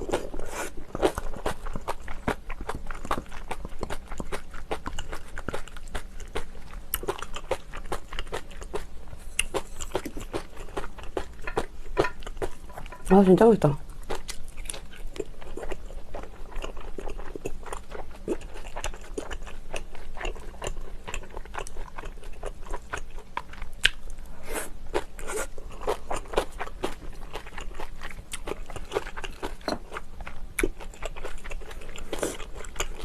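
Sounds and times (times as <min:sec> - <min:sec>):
crunchy chewing: 0:00.0 - 0:13.0, 0:13.9 - 0:24.2, 0:24.9 - 0:33.0.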